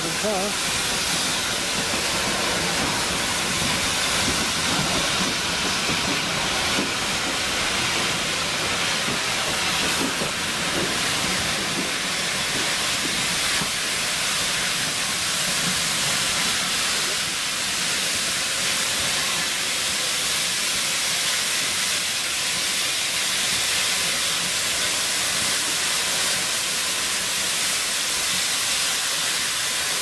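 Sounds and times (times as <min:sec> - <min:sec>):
steam hissing from locomotive: 0:00.0 - 0:30.0.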